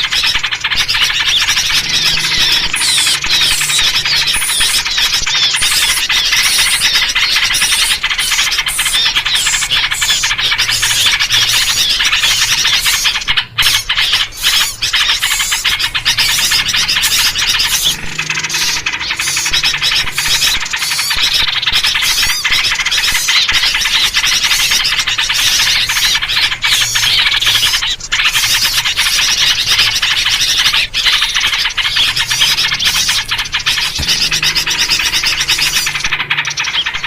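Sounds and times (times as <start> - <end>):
faint low hum: 0.0 - 37.0
small birds chattering and scolding: 0.0 - 37.0.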